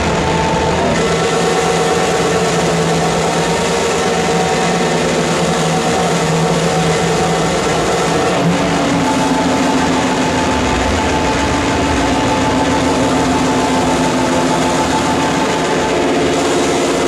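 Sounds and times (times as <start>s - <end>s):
harsh distorted noise wall: 0.0s - 17.0s
steady humming tones: 0.0s - 17.0s.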